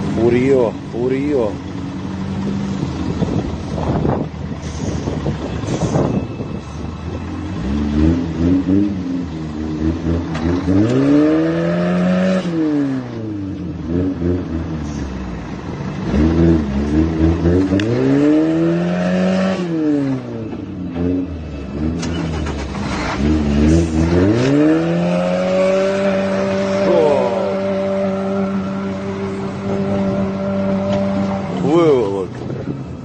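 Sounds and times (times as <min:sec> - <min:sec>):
engine revving hard under load: 0:00.0 - 0:32.8.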